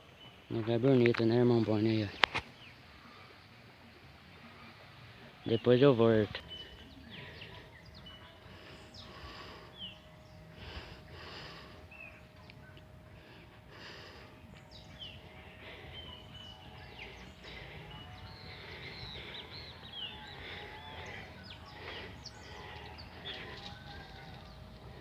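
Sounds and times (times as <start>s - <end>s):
low steady background noise: 0.0s - 25.0s
small birds chirping: 0.0s - 25.0s.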